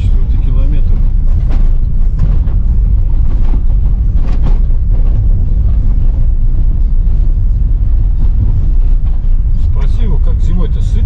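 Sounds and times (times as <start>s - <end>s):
road vehicle rumbling: 0.0s - 11.0s.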